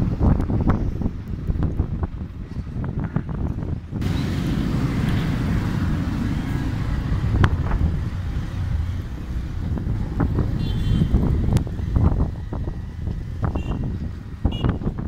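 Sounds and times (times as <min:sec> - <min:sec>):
vehicle engine and road noise: 0:00.0 - 0:15.0
wind noise on microphone: 0:00.0 - 0:15.0.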